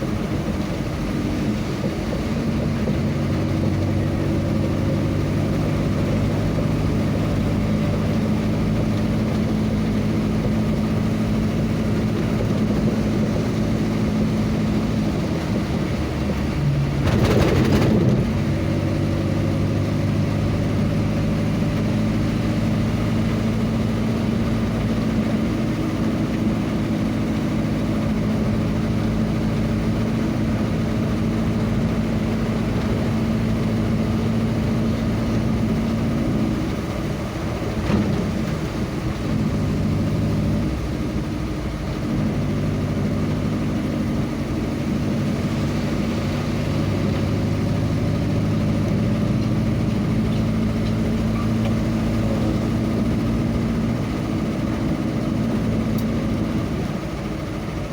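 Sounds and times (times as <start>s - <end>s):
vehicle engine humming: 0.0s - 57.9s.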